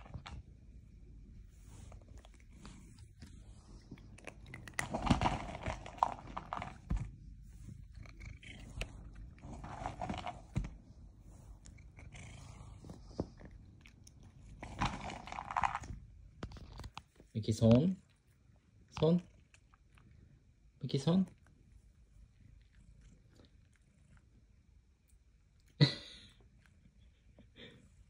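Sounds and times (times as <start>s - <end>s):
cat chewing crackly: 0.0s - 17.3s, 17.9s - 28.0s.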